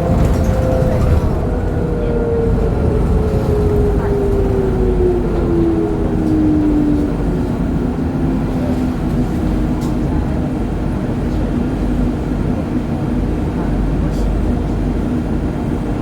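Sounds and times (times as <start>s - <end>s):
bus engine rumble and whine: 0.0s - 16.0s.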